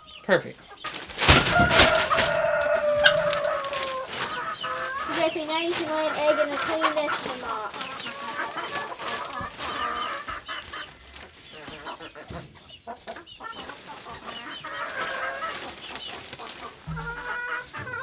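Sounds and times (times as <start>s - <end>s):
hens clucking: 0.0s - 18.0s
plastic sack crinkling: 0.8s - 12.2s, 13.5s - 18.0s
wood shavings scooped by hand: 1.0s - 12.1s, 13.5s - 18.0s.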